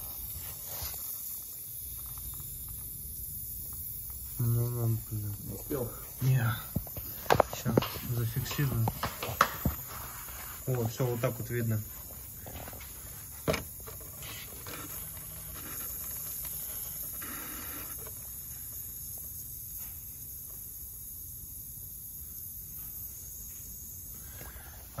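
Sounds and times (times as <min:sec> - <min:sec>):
refrigerant hissing from valve: 0:00.0 - 0:25.0.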